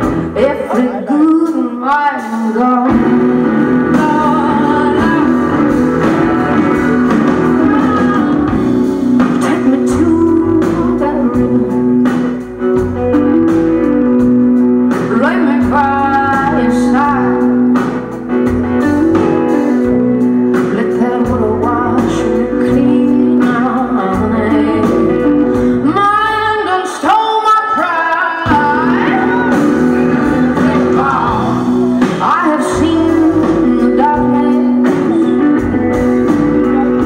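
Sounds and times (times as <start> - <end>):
live blues band playing: 0.0 - 37.0
woman singing lead: 0.0 - 37.0.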